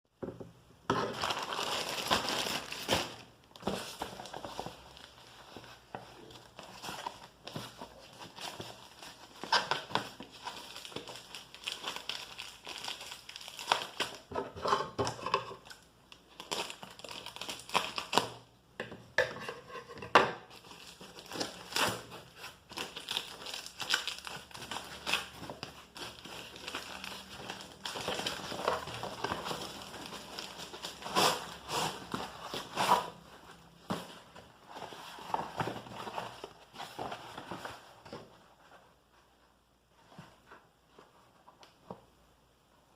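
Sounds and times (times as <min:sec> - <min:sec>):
packaging crinkling and rustling: 0:00.9 - 0:18.4, 0:20.5 - 0:38.9.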